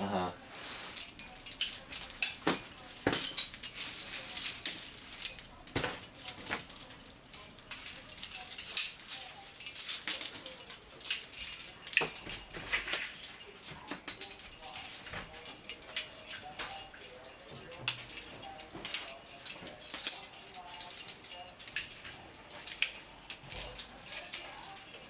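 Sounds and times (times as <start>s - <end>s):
climbing hardware clinking: 0.0s - 25.0s.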